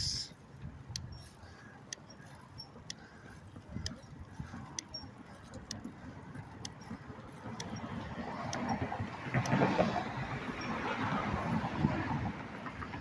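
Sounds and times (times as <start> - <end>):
bicycle metallic click: 0.0 - 10.8
wind and tyres rumbling: 0.0 - 13.0.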